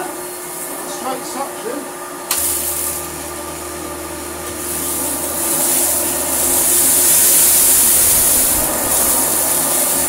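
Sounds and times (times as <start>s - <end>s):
vacuum cleaner motor whine: 0.0s - 10.0s
vacuum rushing hiss on carpet: 0.0s - 10.0s.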